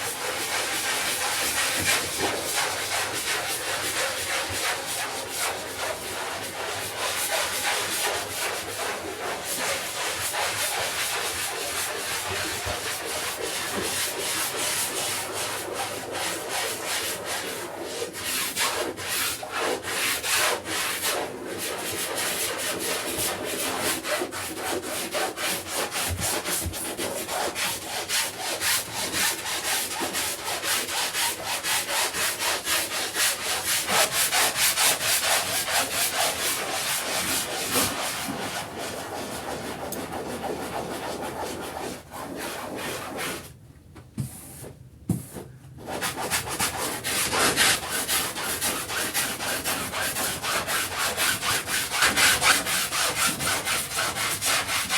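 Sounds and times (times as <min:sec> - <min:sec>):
brush scrubbing a rug: 0:00.0 - 0:43.4, 0:45.8 - 0:54.9.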